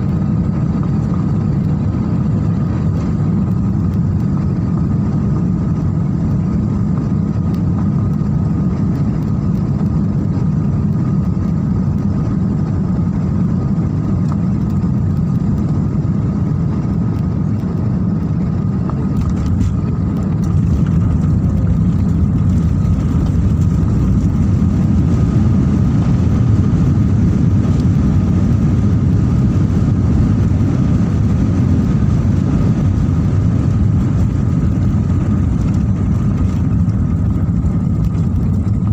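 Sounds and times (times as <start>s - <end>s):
jet engine cabin rumble: 0.0s - 38.9s.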